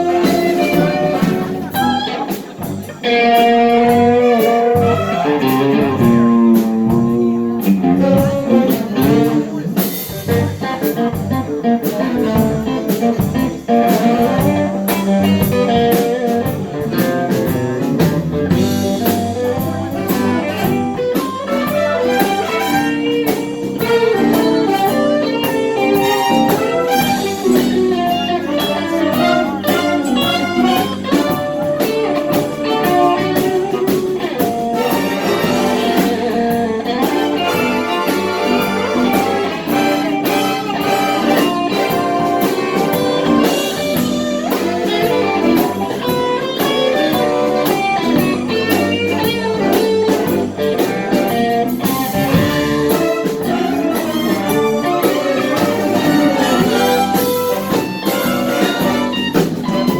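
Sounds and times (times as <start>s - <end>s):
blues band playing: 0.0s - 59.9s
plucked guitar notes: 0.0s - 59.9s.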